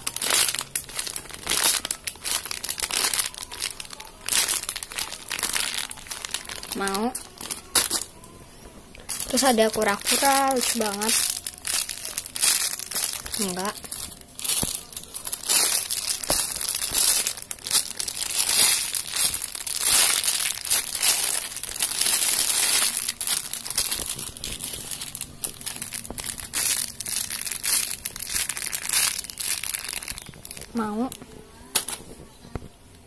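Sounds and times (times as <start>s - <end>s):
plastic bags crinkling: 0.0s - 32.2s.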